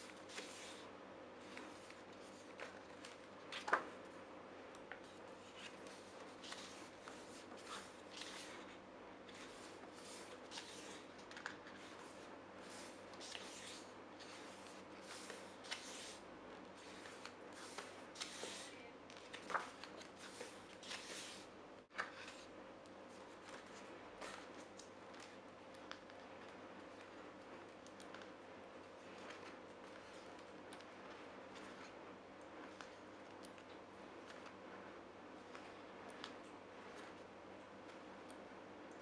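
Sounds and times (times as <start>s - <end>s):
pages turning: 0.0s - 4.0s, 4.8s - 22.5s, 23.1s - 32.0s, 32.6s - 34.7s.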